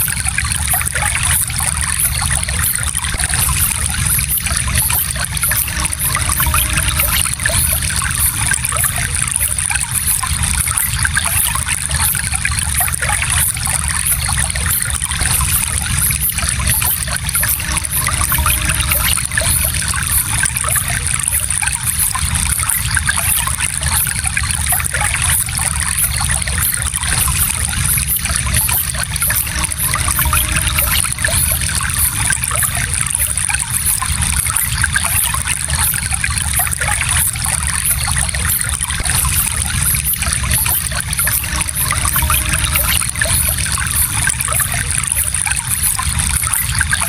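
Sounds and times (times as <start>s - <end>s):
stream water trickling: 0.0s - 47.0s.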